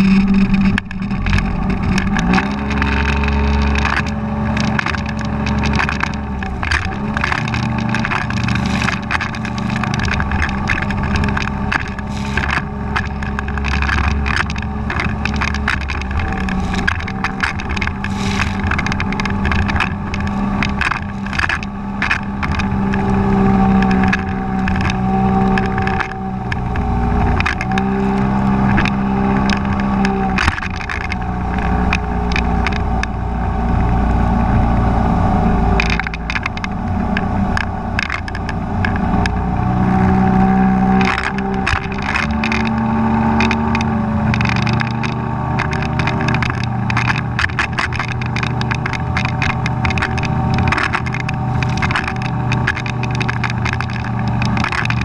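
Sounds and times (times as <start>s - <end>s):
outboard engine running hard: 0.0s - 55.0s.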